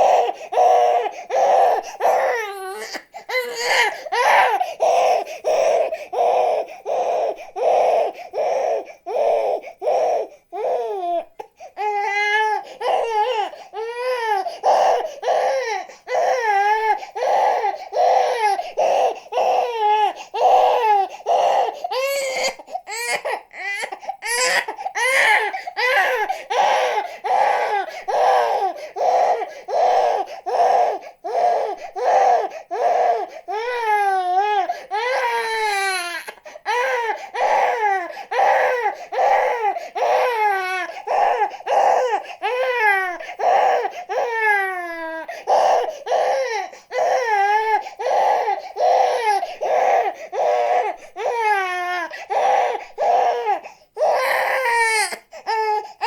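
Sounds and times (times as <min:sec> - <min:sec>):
infant crying: 0:00.0 - 0:56.0.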